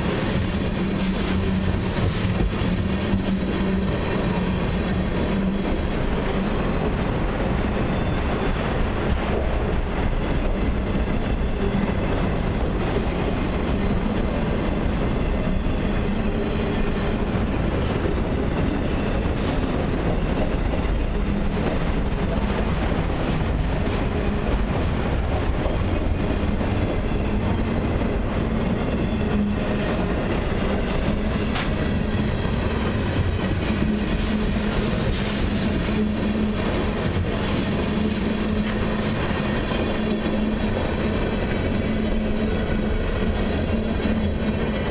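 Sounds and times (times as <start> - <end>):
freight train rolling past: 0.0 - 44.9
wheels clacking over rail joints: 0.0 - 44.9.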